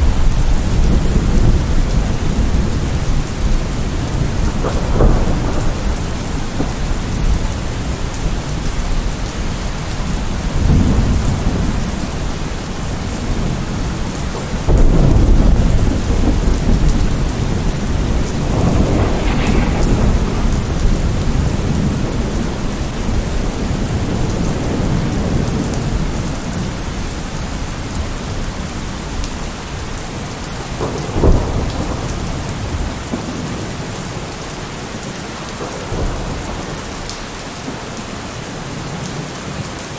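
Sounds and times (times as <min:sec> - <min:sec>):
rolling thunder: 0:00.0 - 0:27.1, 0:27.9 - 0:34.4
heavy rain: 0:00.0 - 0:39.9.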